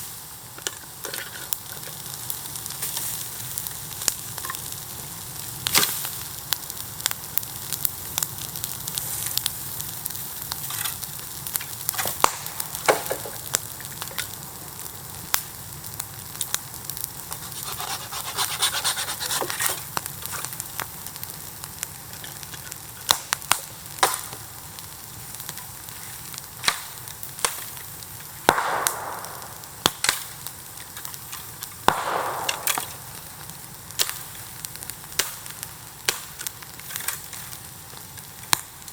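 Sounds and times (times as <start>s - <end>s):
bonfire crackles and pops: 0.0s - 38.9s
bonfire sizzling hiss: 0.0s - 38.9s.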